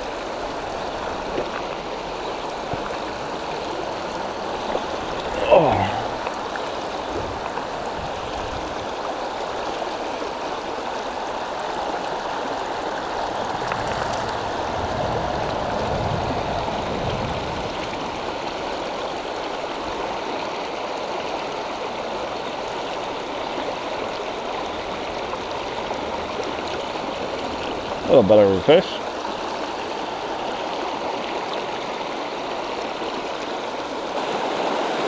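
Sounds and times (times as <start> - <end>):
water rushing over stones: 0.0 - 35.0.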